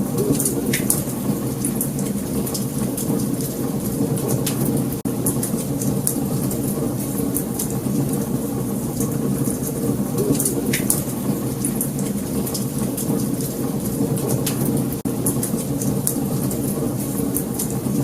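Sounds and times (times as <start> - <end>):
wood fire crackling and popping: 0.1 - 18.0.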